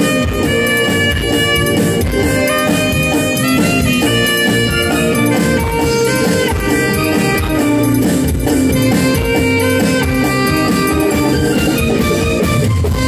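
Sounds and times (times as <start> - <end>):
drum kit: 0.0 - 13.0
electric guitar: 0.0 - 13.0
keyboards: 0.0 - 13.0
saxophone melody: 0.0 - 13.0.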